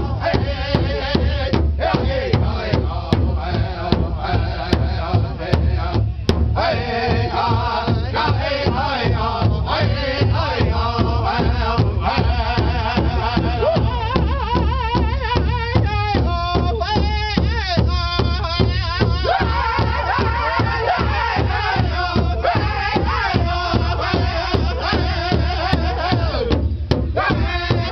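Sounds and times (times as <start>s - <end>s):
big drum beating: 0.0s - 27.9s
men singing a chant: 0.0s - 27.9s.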